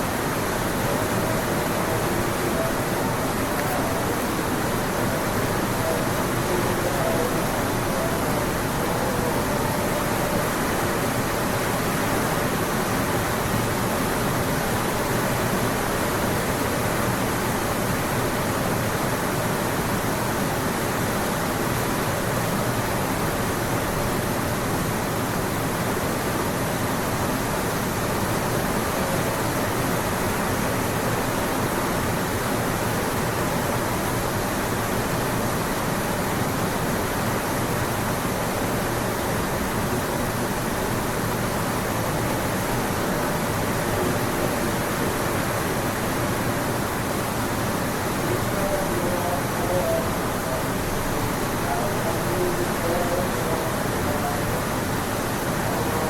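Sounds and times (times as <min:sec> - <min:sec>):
steady hiss-like noise: 0:00.0 - 0:56.0.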